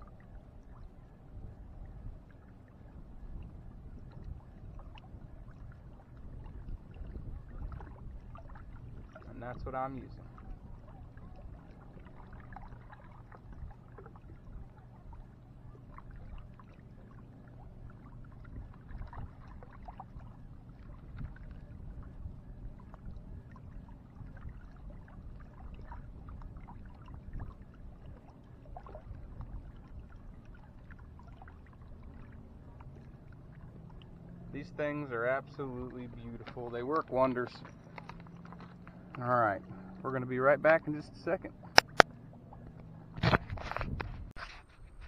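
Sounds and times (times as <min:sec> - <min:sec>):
waves lapping against rocks: 0:02.2 - 0:45.0.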